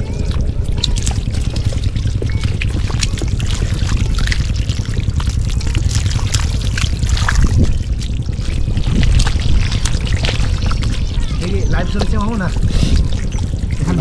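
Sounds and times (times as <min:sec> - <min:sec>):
low rumble: 0:00.0 - 0:14.0
water splashing and trickling: 0:00.0 - 0:14.0.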